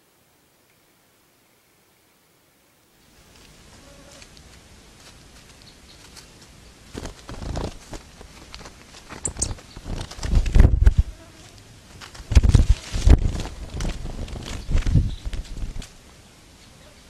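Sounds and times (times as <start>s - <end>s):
birds fluttering in dry straw: 3.0s - 17.0s.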